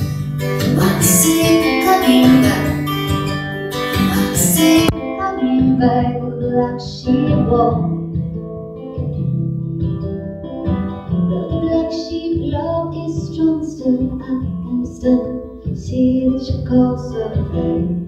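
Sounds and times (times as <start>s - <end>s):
acoustic guitar strummed: 0.0s - 18.0s
woman singing: 0.4s - 8.2s, 11.1s - 18.0s.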